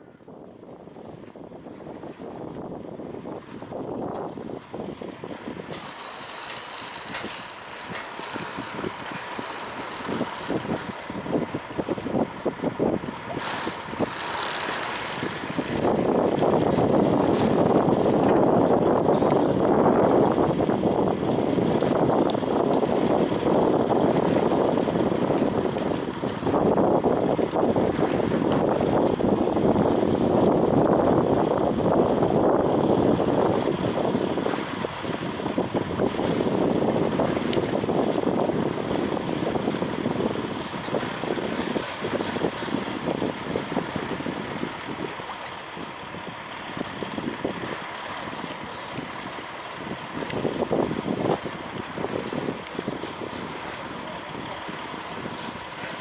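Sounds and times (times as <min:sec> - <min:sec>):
choppy sea water: 0:00.0 - 0:56.0
wind buffeting microphone: 0:00.0 - 0:56.0.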